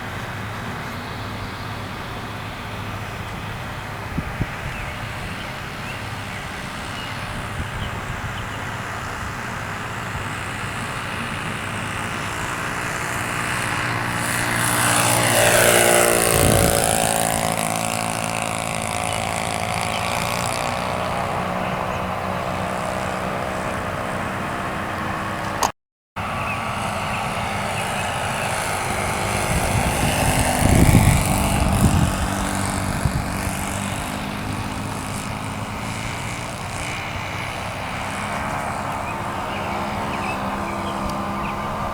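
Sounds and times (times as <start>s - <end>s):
model airplane engine flying past: 0.0s - 41.9s.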